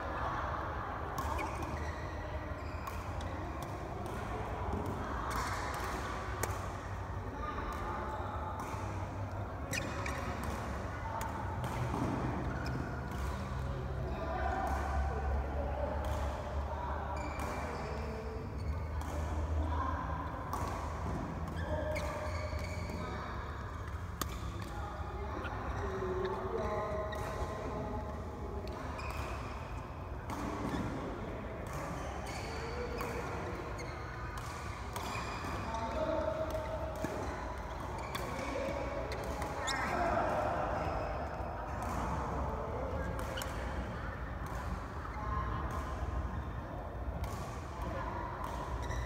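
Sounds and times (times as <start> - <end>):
low hum of hall: 0.0 - 49.0
rackets hitting shuttlecock: 1.1 - 7.9, 8.6 - 15.3, 15.9 - 16.6, 17.2 - 19.5, 20.2 - 23.0, 23.6 - 46.4, 47.0 - 49.0.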